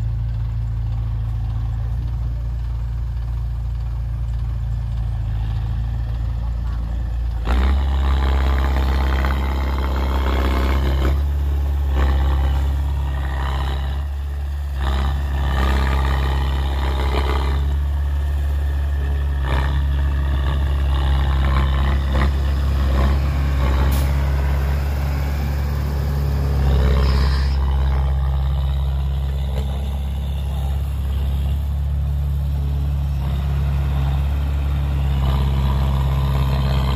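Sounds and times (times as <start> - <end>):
diesel engines droning: 0.0 - 36.9.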